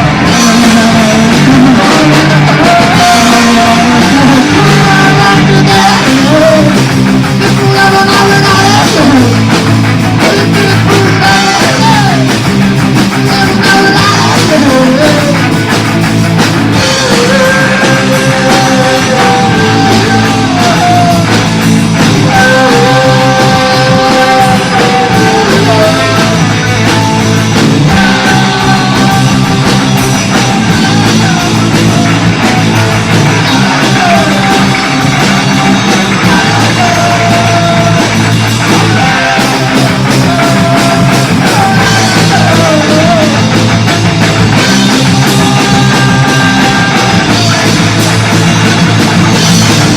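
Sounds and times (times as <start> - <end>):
loud punk rock band: 0.0 - 49.9.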